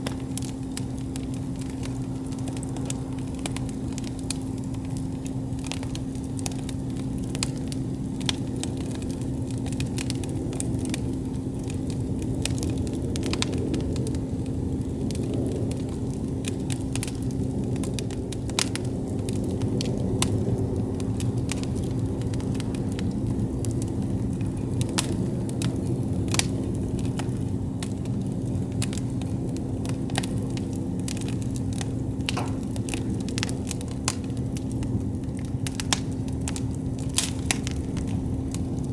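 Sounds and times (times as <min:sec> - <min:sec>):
campfire crackling and popping: 0:00.0 - 0:38.9
low rumble of burning fire: 0:00.0 - 0:38.9.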